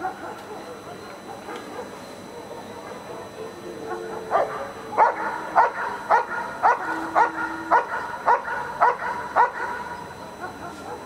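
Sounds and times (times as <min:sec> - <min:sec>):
dog barking: 0:00.0 - 0:02.7, 0:03.9 - 0:11.0.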